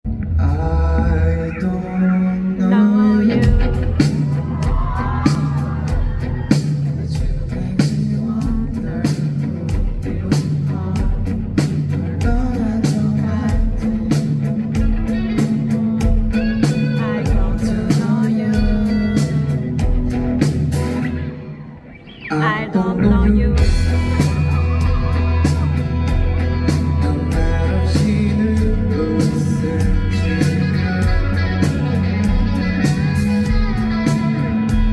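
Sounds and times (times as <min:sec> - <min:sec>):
man singing lead vocals: 0:00.1 - 0:20.2, 0:22.0 - 0:34.9
rock band playing: 0:00.1 - 0:34.9.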